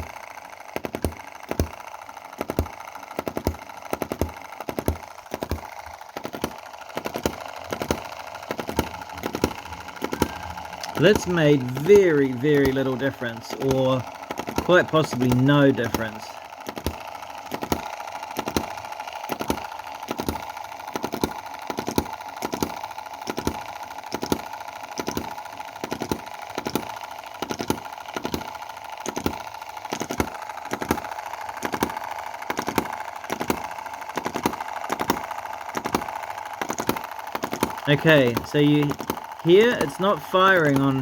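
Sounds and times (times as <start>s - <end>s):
hit-and-miss engine knocking: 0.0s - 41.0s.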